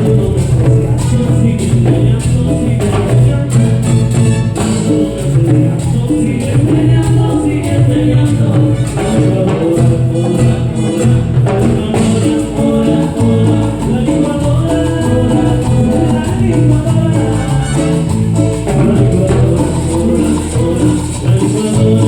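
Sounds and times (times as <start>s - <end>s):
instrumental cumbia band music: 0.0s - 22.0s.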